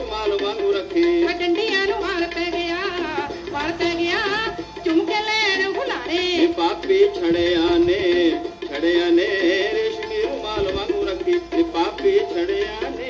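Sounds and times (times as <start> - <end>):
folk song from vinyl record: 0.0 - 13.0.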